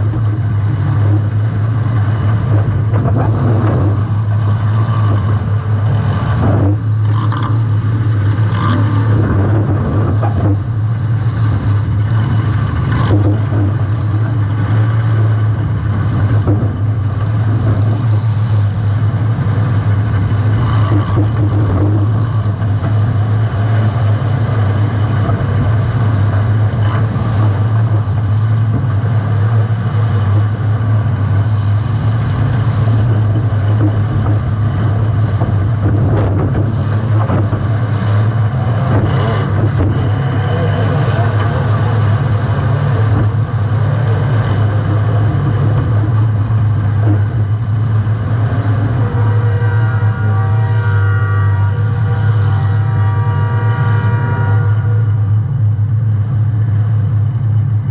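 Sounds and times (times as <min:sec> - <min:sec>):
car engine running loud: 0:00.0 - 0:57.9.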